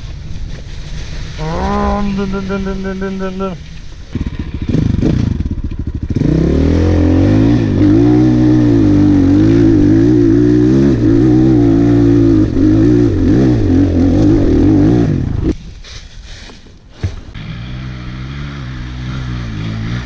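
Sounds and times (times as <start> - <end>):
dirt bike engine revving: 1.3 - 15.6, 17.3 - 20.0.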